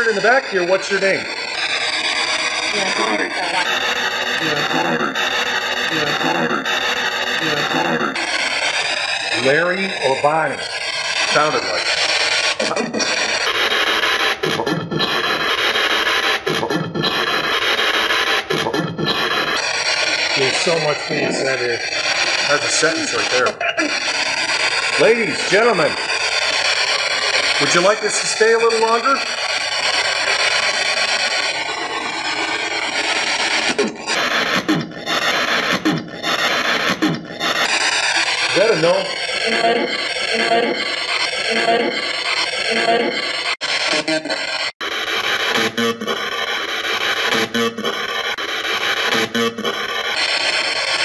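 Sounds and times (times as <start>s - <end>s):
radio static hiss: 0.0s - 51.0s
short fragments of radio sound: 0.0s - 51.0s.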